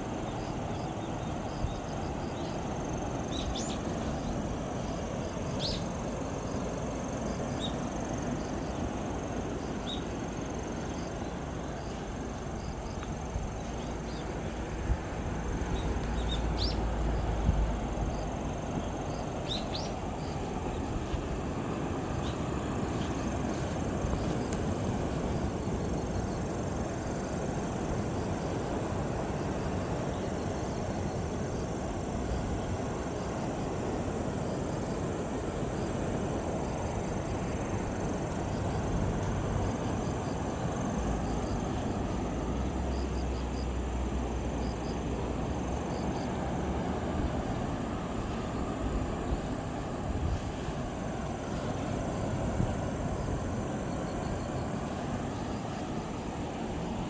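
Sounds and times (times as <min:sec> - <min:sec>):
sea surf: 0:00.0 - 0:57.0.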